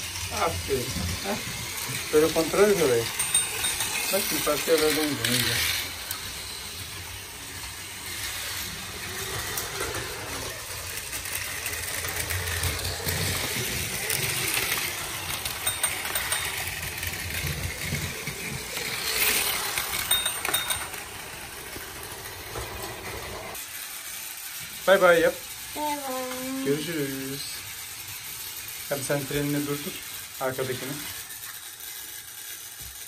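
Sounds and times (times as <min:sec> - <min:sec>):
toy train motor whirring: 0:00.0 - 0:33.0
toy train wheels clattering: 0:00.0 - 0:33.0.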